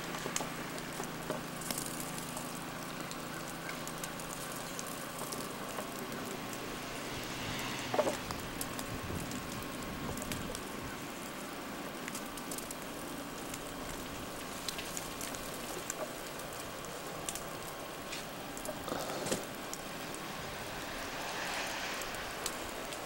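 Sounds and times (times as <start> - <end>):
branch rustle: 0.0 - 23.0
melting snow dripping from branches: 0.0 - 23.0
steady hiss: 0.0 - 23.0.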